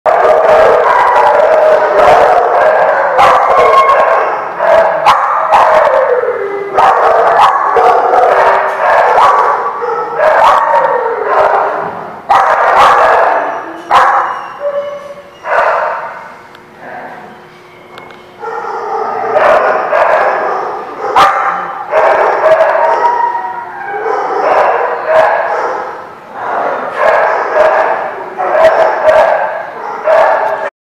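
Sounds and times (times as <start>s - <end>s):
small dogs barking and yapping: 0.1s - 16.4s, 18.0s - 30.7s.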